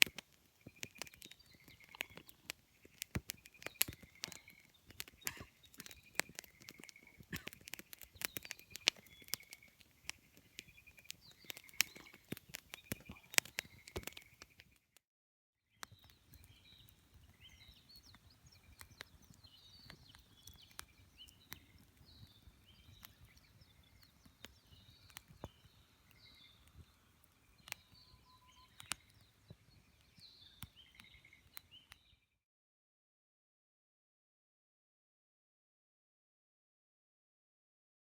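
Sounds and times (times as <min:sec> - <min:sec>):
campfire crackling and popping: 0:00.0 - 0:15.0, 0:15.8 - 0:32.2
small birds chirping: 0:00.0 - 0:15.0, 0:15.7 - 0:32.4.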